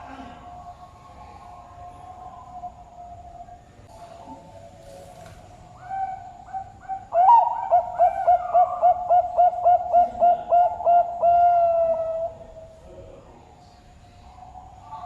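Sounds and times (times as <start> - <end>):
dove cooing: 0.0 - 12.7.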